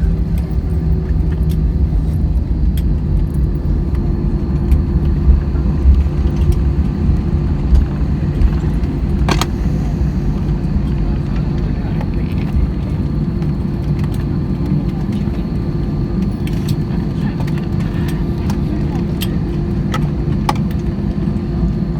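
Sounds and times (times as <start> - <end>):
vehicle rumble: 0.0 - 19.3.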